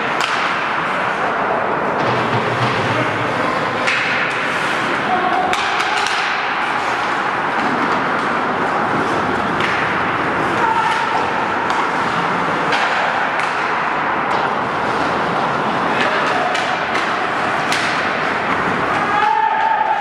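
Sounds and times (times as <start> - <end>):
hockey stick and puck clacks: 0.0 - 20.0
skates scraping ice: 0.0 - 20.0.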